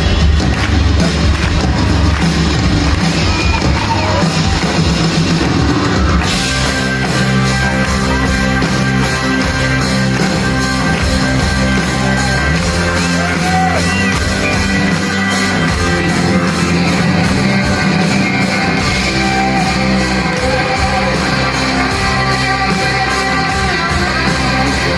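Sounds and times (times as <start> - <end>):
live rock band playing: 0.0 - 24.9.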